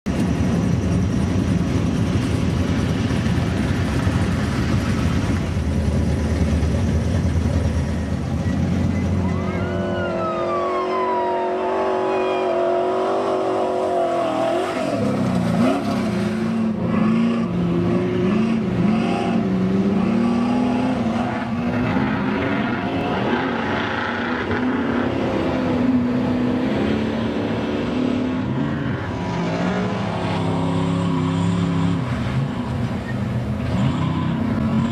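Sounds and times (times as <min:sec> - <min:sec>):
truck engines rumbling and revving: 0:00.0 - 0:34.9.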